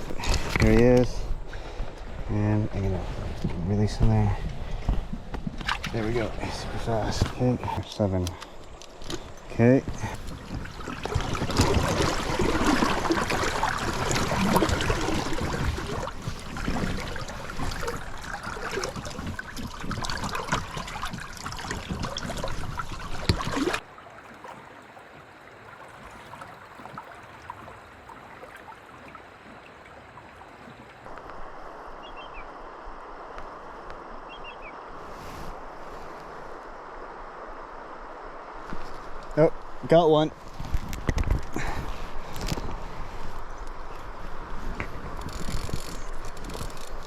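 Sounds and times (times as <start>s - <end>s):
river water splashing and gurgling: 0.0s - 47.0s
steady flow of water: 0.0s - 47.0s.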